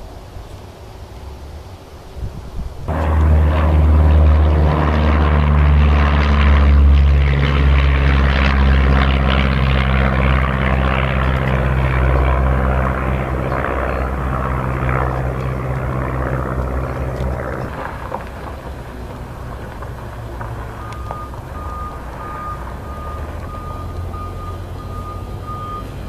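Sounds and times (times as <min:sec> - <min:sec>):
propeller airplane engine drone: 0:00.0 - 0:26.0.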